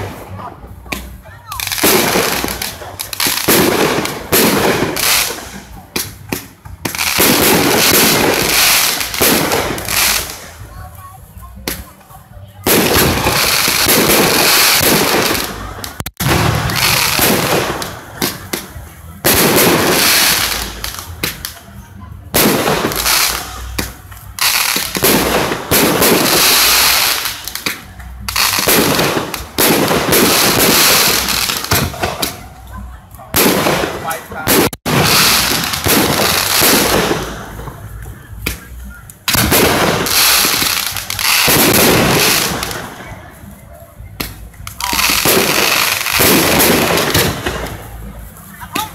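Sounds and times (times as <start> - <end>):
fireworks bursting: 0.0 - 21.7, 22.3 - 48.9.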